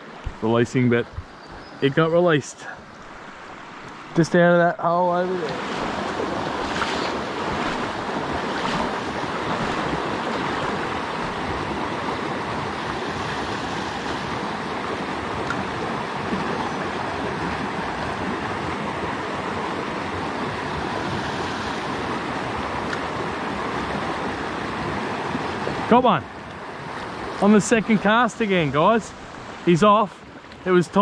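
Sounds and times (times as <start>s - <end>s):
stream rushing over rocks: 2.2s - 31.0s.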